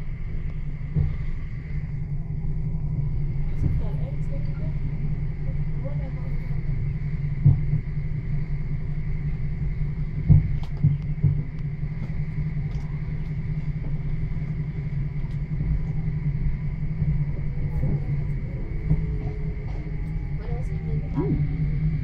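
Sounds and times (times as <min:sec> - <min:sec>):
faint steady whine: 0:00.0 - 0:22.0
train wheels rumbling on rails: 0:00.0 - 0:22.0.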